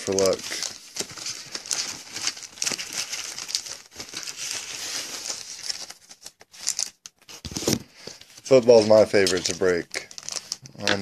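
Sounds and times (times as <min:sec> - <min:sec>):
foil packs crinkling: 0:00.0 - 0:11.0.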